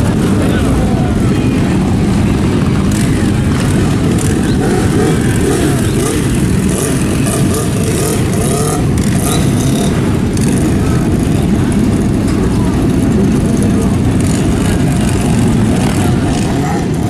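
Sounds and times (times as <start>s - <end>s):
faint voices: 0.0s - 17.0s
motorcycle engines running: 0.0s - 17.0s.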